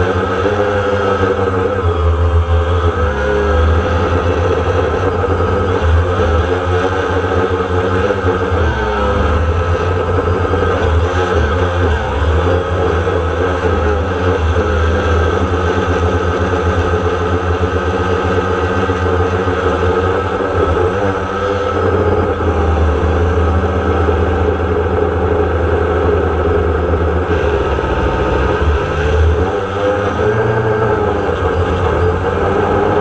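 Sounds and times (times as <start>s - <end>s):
drone motors humming: 0.0s - 33.0s.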